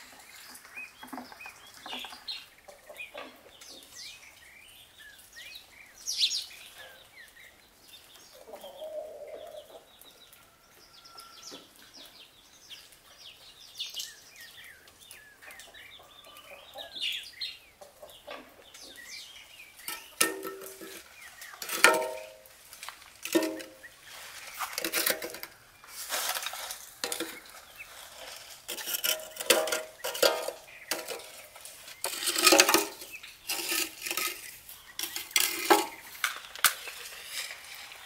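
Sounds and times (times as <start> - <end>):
chickens clucking: 0.0 - 4.0, 8.2 - 12.2, 14.8 - 38.0
small birds chirping: 0.0 - 38.0.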